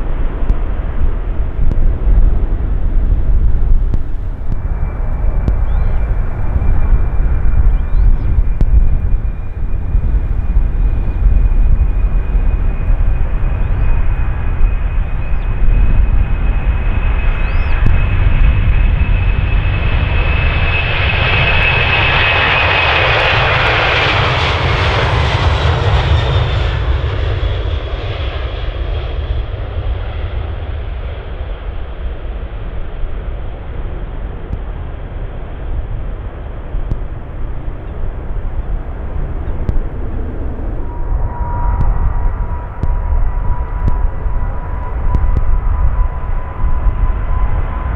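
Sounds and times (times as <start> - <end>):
jet airliner passing: 0.0 - 47.9.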